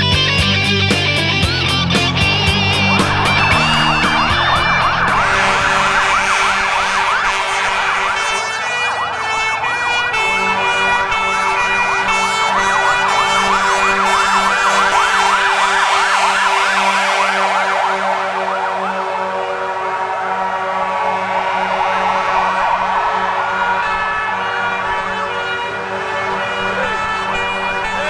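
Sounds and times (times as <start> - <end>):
fire engine siren yelping: 1.4 - 28.0.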